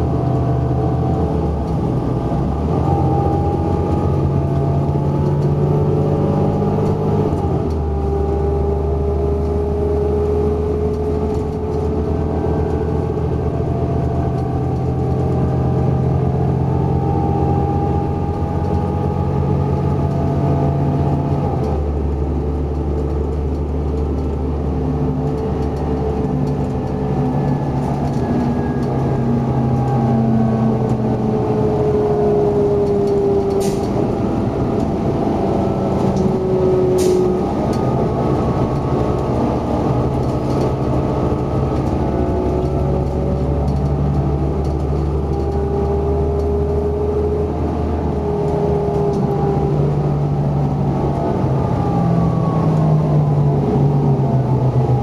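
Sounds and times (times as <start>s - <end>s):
bus diesel engine running: 0.0s - 55.0s
road and tyre noise: 0.0s - 55.0s.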